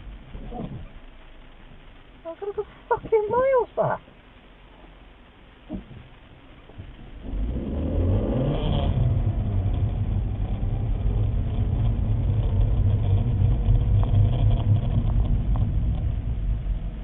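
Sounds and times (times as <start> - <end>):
car engine running: 0.0 - 17.0
low road rumble: 0.0 - 17.0.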